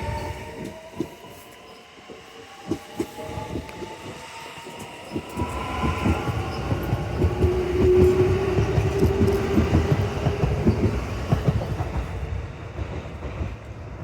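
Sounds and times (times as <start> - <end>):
train wheels clicking over rail joints: 2.1 - 13.7
train running rumble: 2.7 - 14.0.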